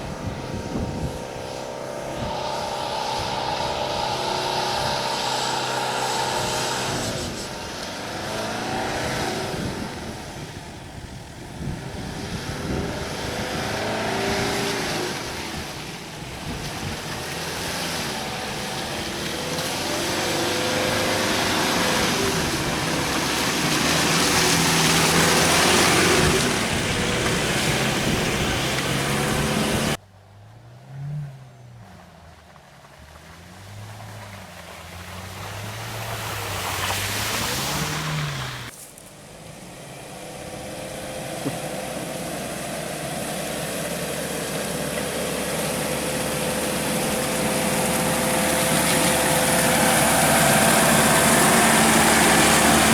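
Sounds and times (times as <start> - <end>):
tyres hissing on rough ground: 0.0 - 30.0, 33.1 - 52.9
engine revving under load: 0.0 - 52.9.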